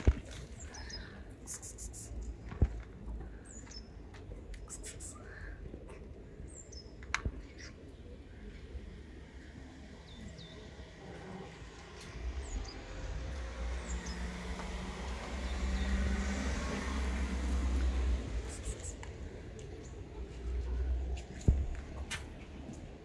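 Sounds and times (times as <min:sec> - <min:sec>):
small birds chirping: 0:00.2 - 0:09.0, 0:10.0 - 0:22.0.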